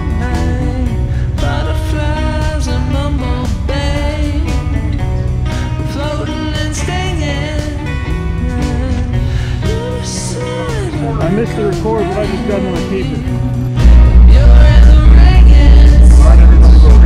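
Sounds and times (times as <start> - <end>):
country song with guitar: 0.0 - 17.0.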